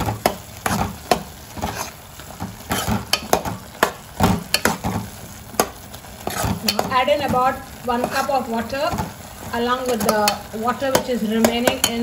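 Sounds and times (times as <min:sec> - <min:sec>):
faint sizzle of frying: 0:00.0 - 0:12.0
metal spoon scraping a pan: 0:00.0 - 0:12.0.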